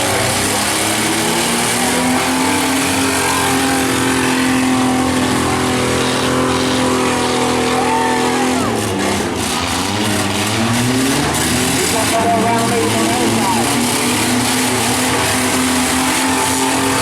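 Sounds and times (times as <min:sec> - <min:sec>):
truck and van engines running hard: 0:00.0 - 0:17.0.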